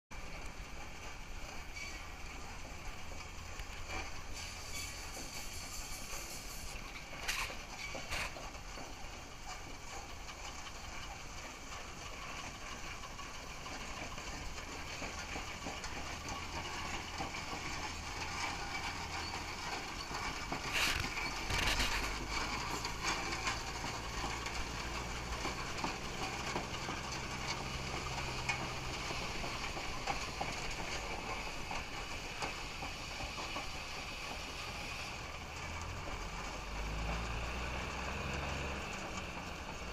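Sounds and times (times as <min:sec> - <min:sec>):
steam traction engine running: 0:00.1 - 0:39.9.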